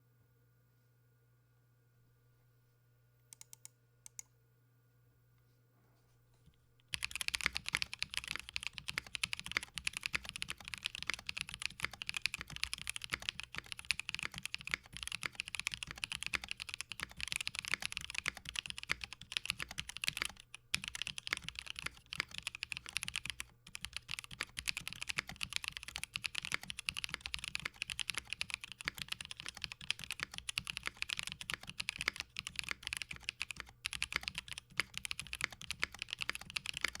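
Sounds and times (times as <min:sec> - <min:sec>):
typing on mechanical keyboard: 0:06.9 - 0:37.0.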